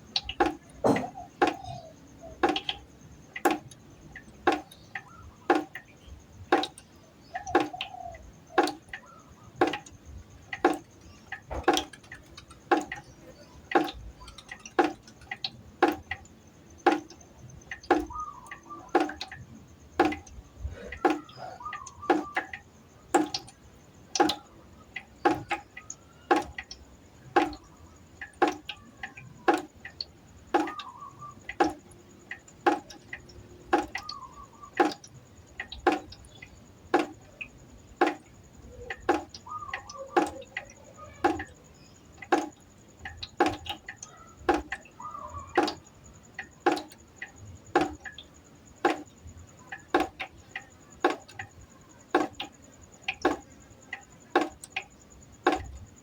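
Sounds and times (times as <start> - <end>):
water droplets dripping into pot: 0.0 - 56.0.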